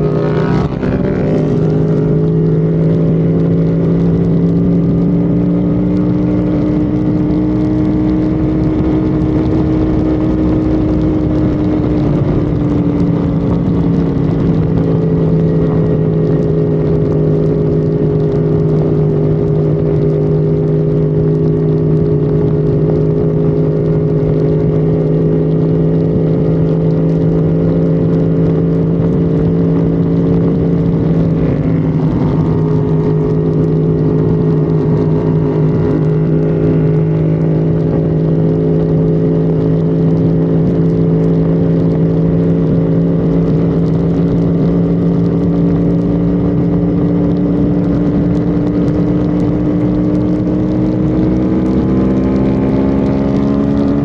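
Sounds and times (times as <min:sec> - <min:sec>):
car engine running hard: 0:00.0 - 0:54.0
road and wind noise: 0:00.0 - 0:54.0.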